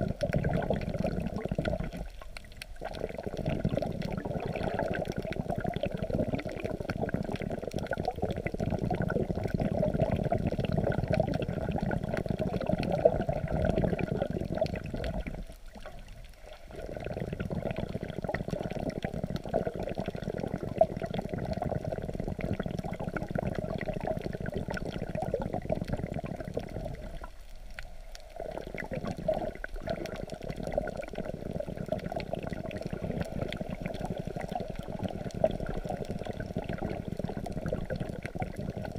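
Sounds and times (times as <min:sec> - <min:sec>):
water sloshing underwater: 0:00.0 - 0:38.9.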